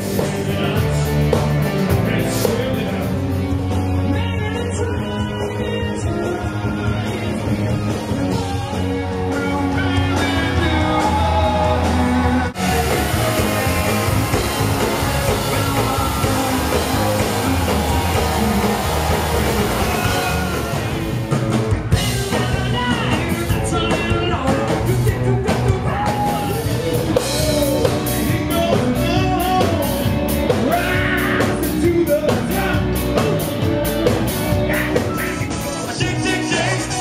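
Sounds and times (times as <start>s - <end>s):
person singing: 0.0s - 21.3s, 21.9s - 37.0s
drums: 0.0s - 37.0s
electric guitar: 0.0s - 37.0s
live rock band playing: 0.0s - 37.0s.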